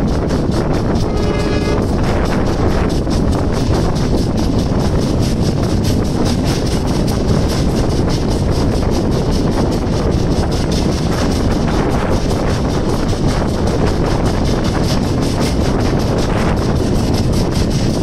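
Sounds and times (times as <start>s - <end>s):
wind noise: 0.0s - 18.0s.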